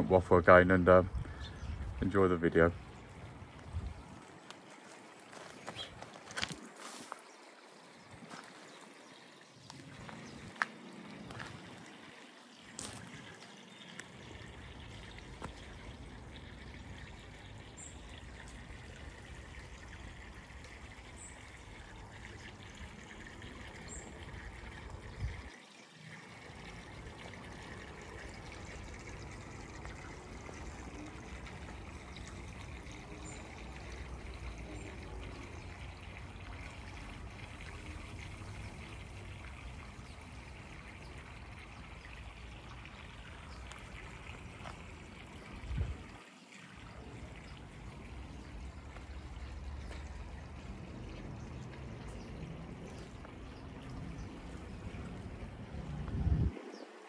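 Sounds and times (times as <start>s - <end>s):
water trickling into pond: 0.0s - 57.0s.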